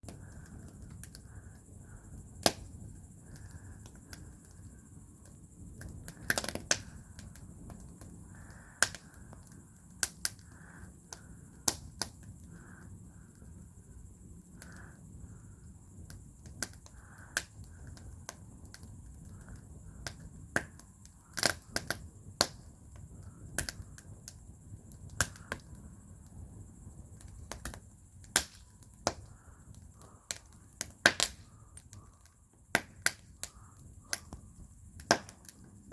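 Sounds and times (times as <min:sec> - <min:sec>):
wood fire crackling and popping: 0:00.0 - 0:35.9.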